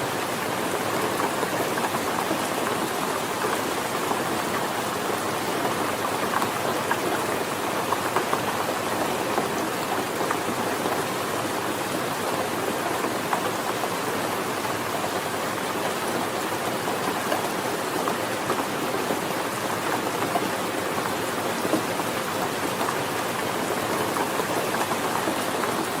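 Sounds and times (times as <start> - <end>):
rain on hard surface: 0.0 - 26.0.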